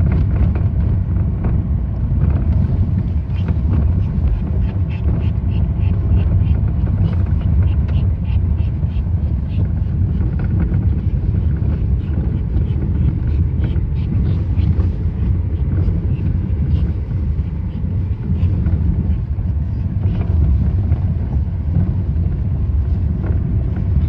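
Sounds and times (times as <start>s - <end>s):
low road rumble: 0.0s - 24.0s
suspension knocking: 0.0s - 24.0s.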